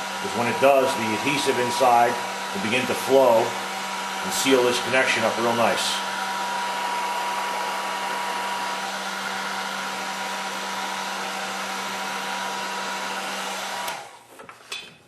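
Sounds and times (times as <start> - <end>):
heat gun blowing air: 0.0 - 14.3.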